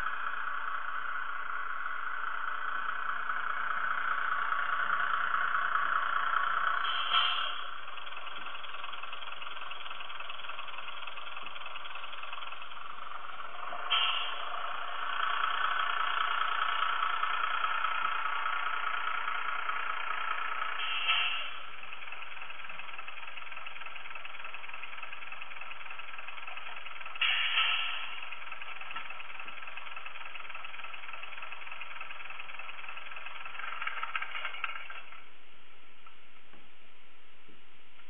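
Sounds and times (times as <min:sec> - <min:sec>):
diesel railcar engine through small speaker: 0:00.0 - 0:38.0.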